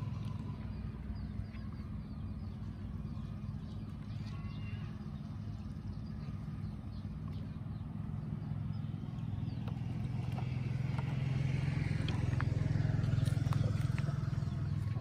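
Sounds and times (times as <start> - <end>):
low steady engine hum: 0.0 - 15.0.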